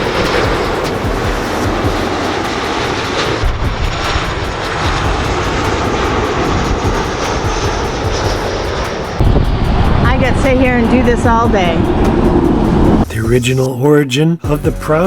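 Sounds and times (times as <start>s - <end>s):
airliner engines rumbling overhead: 0.0s - 13.2s.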